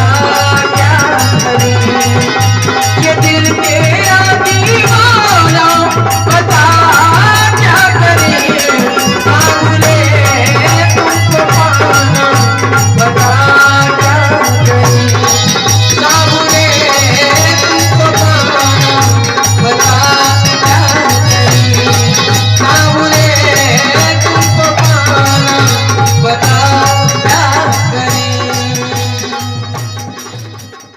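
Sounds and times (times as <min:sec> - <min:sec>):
rapid percussion: 0:00.0 - 0:30.9.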